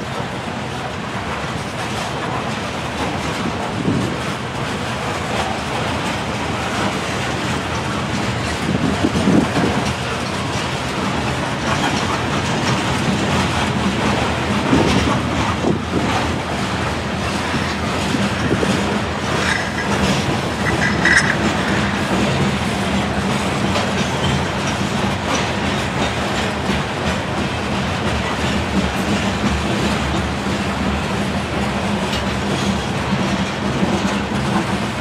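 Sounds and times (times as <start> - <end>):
train wheels rumbling on rail: 0.0 - 35.0
wheels clacking over rail joints: 0.0 - 35.0.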